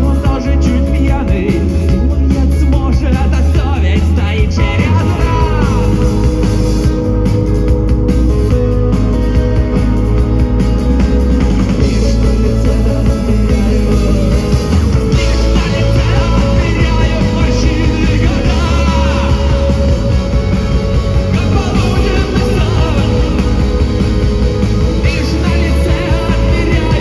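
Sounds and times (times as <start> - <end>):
person singing: 0.0 - 6.6, 11.8 - 27.0
rock band playing live: 0.0 - 27.0.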